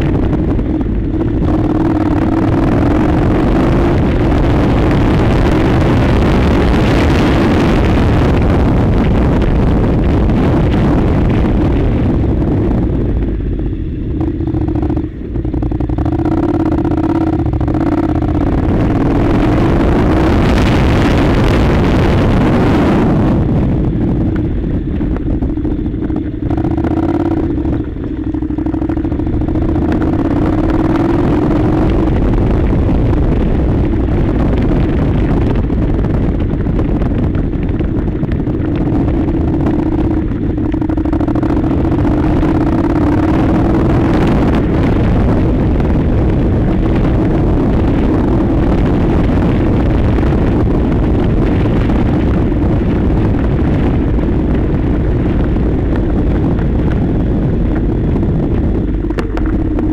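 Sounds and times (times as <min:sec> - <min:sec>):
motorcycle engine running: 0:00.0 - 0:59.9
travel noise on gravel: 0:00.0 - 0:59.9.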